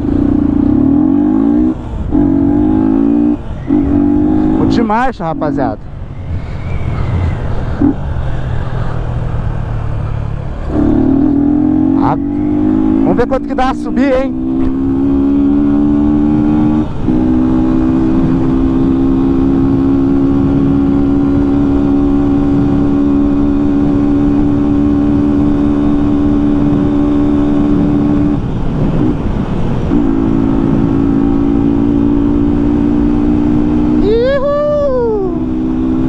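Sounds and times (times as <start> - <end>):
wind noise: 0.0 - 13.2, 14.2 - 36.0.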